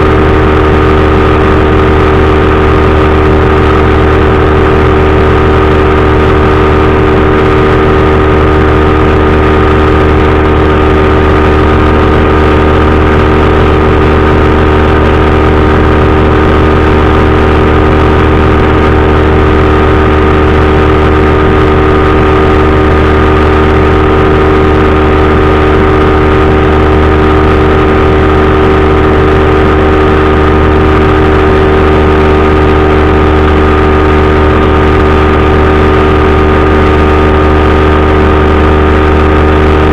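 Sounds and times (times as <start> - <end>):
engine and propeller drone: 0.0 - 39.9.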